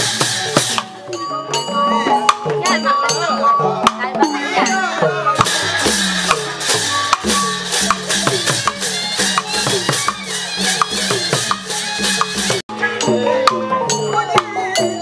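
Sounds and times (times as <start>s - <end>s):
traditional music with percussion: 0.0s - 15.0s.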